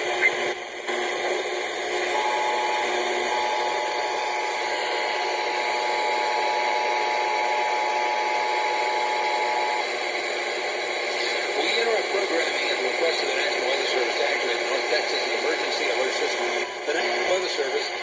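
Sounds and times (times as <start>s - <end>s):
radio hiss and static: 0.0s - 18.0s.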